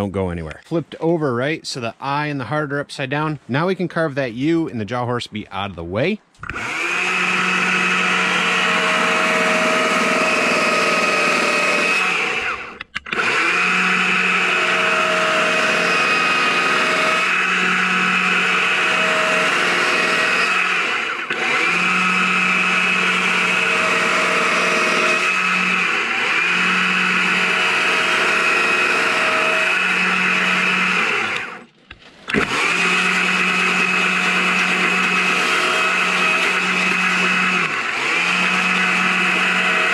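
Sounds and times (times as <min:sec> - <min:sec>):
chainsaw cutting log: 0:06.4 - 0:39.9.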